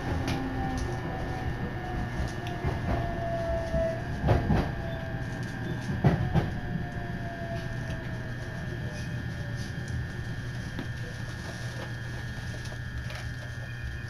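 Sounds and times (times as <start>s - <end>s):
faint falling whine: 0.0s - 14.0s
train rumbling on track: 0.0s - 14.0s.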